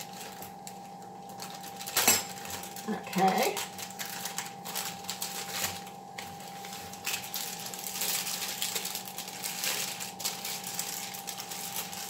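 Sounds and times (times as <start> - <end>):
faint steady hum: 0.0 - 12.0
wrapper crackling and rustling: 0.0 - 12.0.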